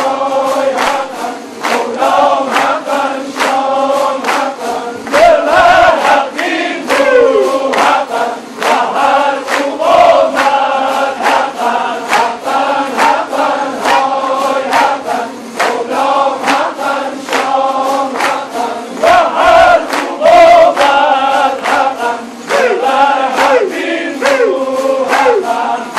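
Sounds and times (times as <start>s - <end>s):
chorus singing: 0.0s - 25.9s.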